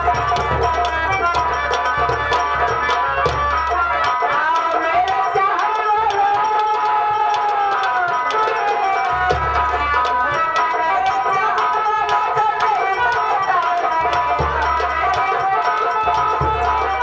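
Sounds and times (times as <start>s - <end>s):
fast hand drumming: 0.0s - 17.0s
harmonium: 0.0s - 17.0s
person singing: 0.0s - 17.0s.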